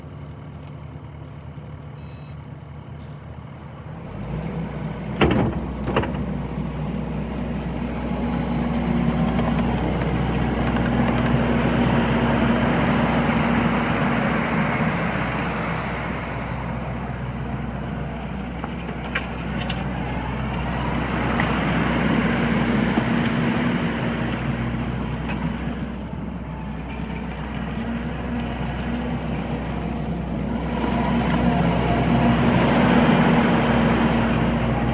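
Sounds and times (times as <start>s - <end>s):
track loader diesel engine: 0.0s - 34.9s.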